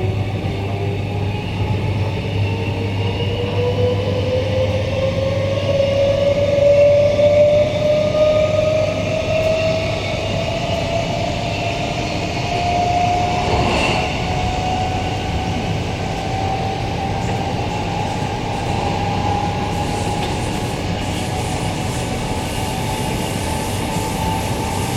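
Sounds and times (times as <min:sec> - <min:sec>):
train rumble: 0:00.0 - 0:24.9.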